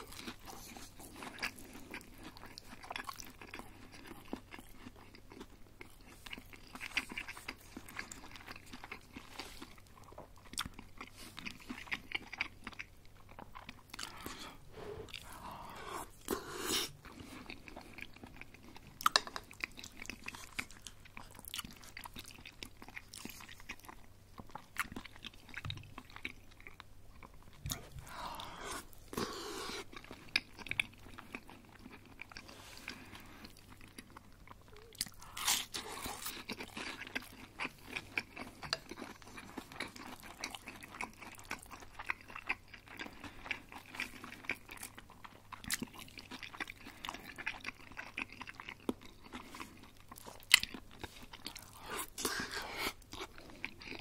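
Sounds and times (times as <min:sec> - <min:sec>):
crunchy chicken being chewed: 0:00.0 - 0:54.0.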